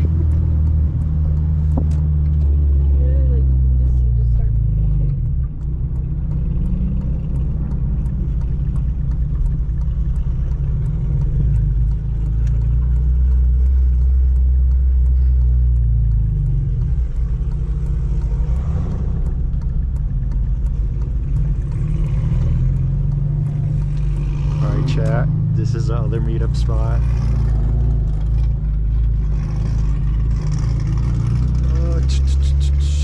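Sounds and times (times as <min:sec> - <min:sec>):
car engine droning: 0:00.0 - 0:33.0.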